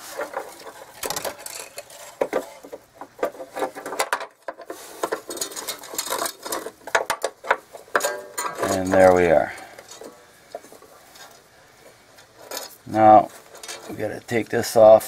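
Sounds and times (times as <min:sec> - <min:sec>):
metal clicks and scrapes: 0:00.0 - 0:11.5, 0:12.1 - 0:14.4.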